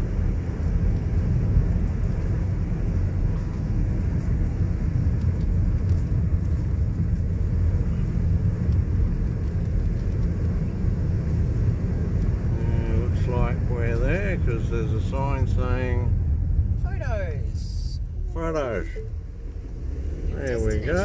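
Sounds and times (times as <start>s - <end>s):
car engine: 0.0s - 21.0s
tyre noise on road: 0.0s - 21.0s.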